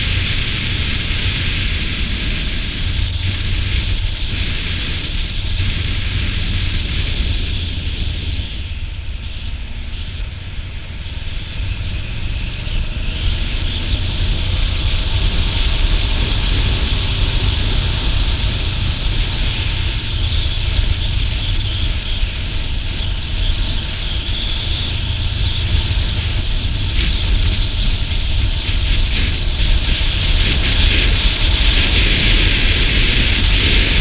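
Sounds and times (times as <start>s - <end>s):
motorbike and road rumble: 0.0s - 34.0s
wind rushing over microphone: 0.0s - 34.0s.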